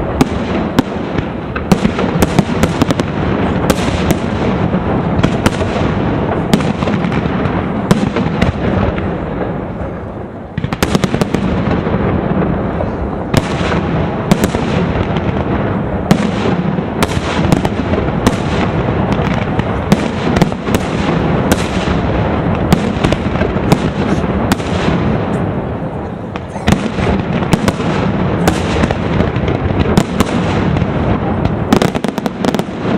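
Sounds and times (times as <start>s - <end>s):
firework bangs: 0.0s - 32.9s
firework cracks: 0.0s - 32.9s
firework rumble: 0.0s - 32.9s.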